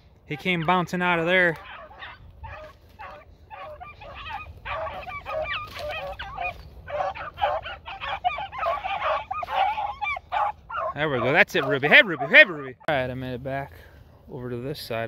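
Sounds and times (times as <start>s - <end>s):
hounds baying: 0.3s - 12.9s.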